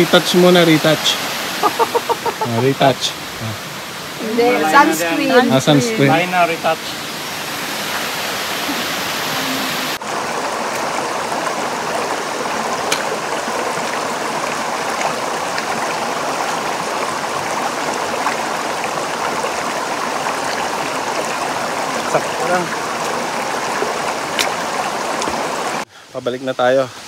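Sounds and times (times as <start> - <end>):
creek water flowing: 0.0 - 27.0.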